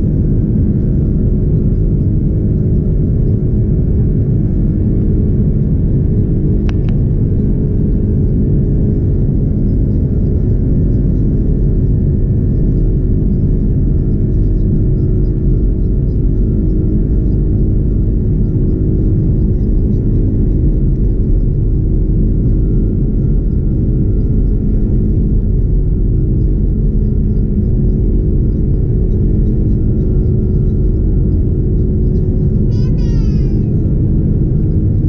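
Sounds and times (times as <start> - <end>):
airplane taxiing rumble: 0.0 - 35.0
steady hum tones: 0.0 - 35.0.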